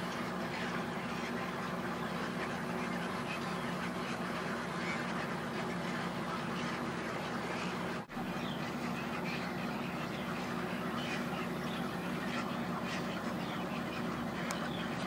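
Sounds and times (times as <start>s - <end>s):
flock of egrets calling: 0.0s - 15.0s.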